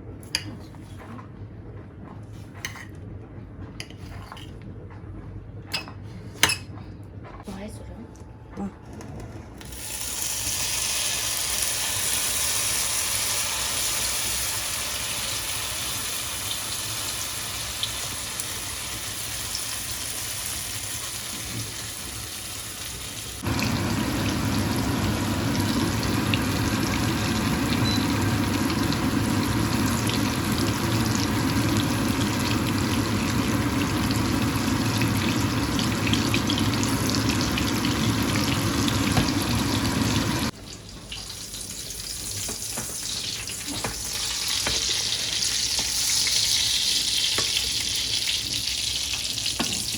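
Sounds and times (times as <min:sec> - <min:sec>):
eggplant sizzling in hot oil: 0:09.6 - 0:49.9.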